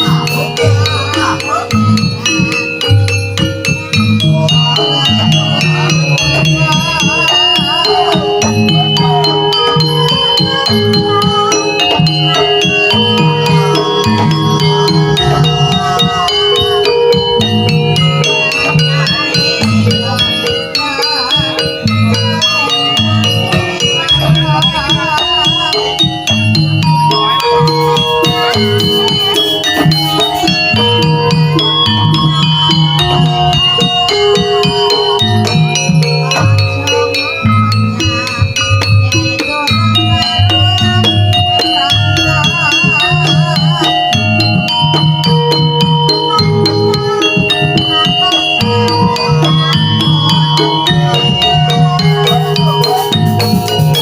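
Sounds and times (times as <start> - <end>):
wavering melodic line: 0.0 - 54.0.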